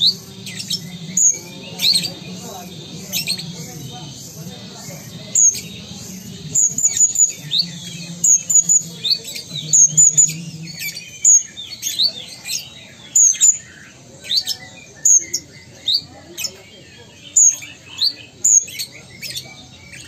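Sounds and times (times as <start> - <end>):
sunbird singing high chirps: 0.0 - 20.0.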